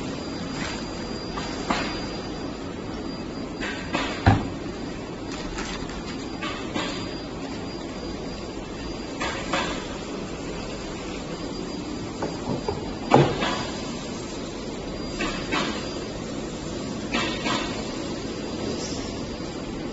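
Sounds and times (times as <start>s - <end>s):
steady background noise: 0.0s - 19.9s.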